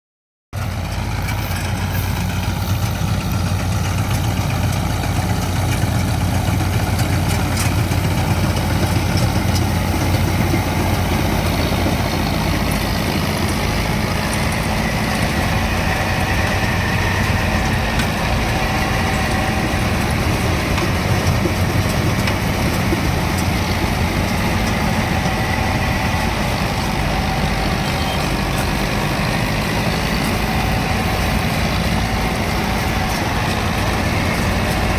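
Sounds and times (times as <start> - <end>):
combine harvester engine drone: 0.6 - 34.9.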